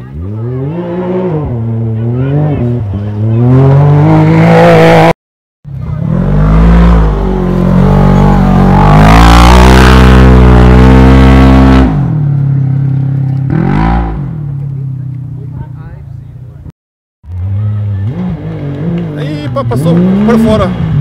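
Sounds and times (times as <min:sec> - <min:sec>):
buggy engines revving: 0:00.0 - 0:21.0.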